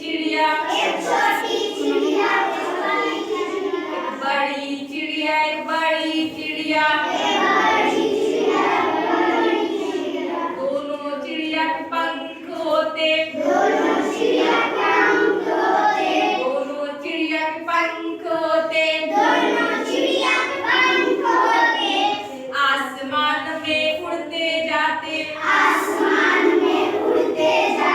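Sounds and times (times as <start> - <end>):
children and woman singing: 0.0 - 27.9.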